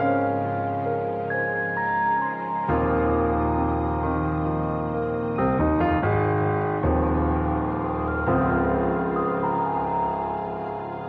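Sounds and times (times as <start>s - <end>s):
slow soft instrumental music: 0.0s - 11.0s.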